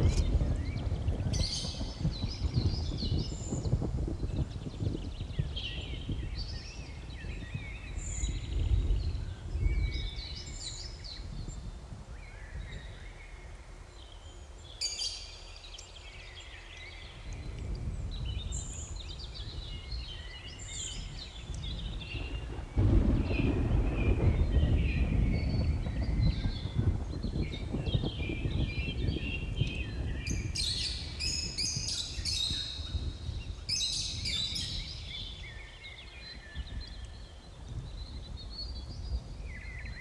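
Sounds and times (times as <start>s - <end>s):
birds chirping and singing: 0.0s - 40.0s.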